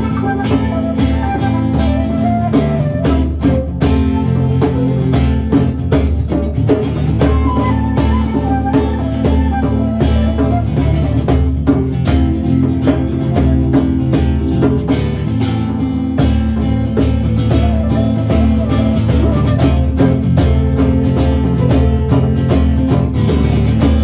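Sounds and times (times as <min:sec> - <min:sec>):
guitar and plucked strings: 0:00.0 - 0:24.0
regular drum beat: 0:00.0 - 0:24.0.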